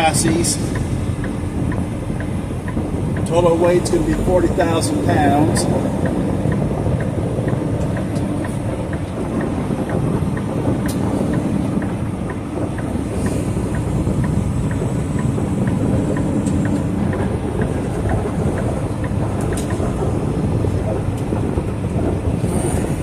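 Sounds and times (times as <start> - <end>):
faint regular ticking: 0.0 - 23.0
truck engine and road drone: 0.0 - 23.0.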